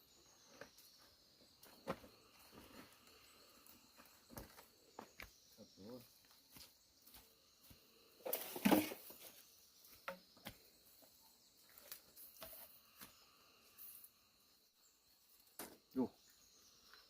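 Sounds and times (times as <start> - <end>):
faint insect hiss: 0.0 - 17.0.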